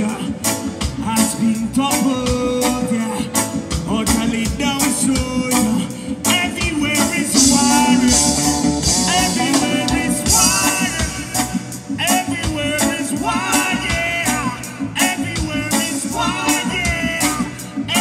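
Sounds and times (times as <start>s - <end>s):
live reggae band playing: 0.0s - 18.0s
man singing into microphone: 0.0s - 18.0s.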